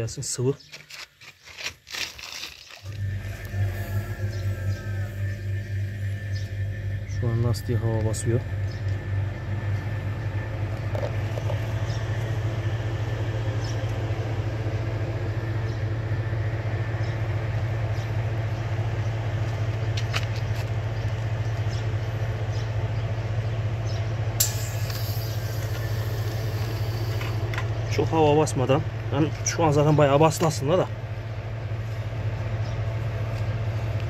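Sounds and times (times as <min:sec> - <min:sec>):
air compressor humming: 0:00.6 - 0:34.0.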